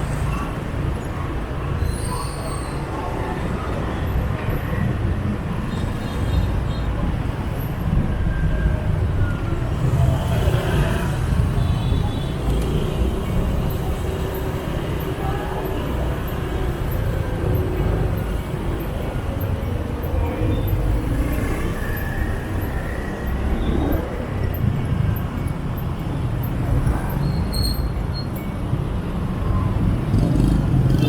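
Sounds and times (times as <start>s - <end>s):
motorbike engines rumbling: 0.0s - 31.0s
road noise: 0.0s - 31.0s.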